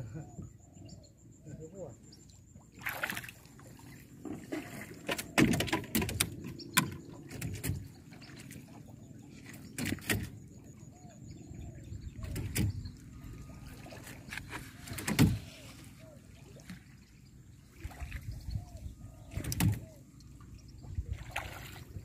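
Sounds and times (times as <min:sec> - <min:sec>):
water sloshing and splashing: 0:02.2 - 0:22.0.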